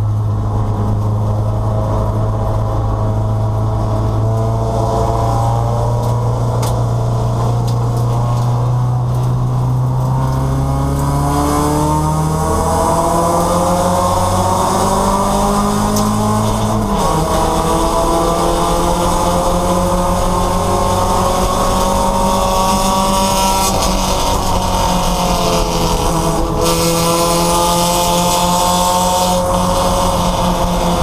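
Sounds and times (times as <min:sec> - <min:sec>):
race car engine revving: 0:00.0 - 0:31.0.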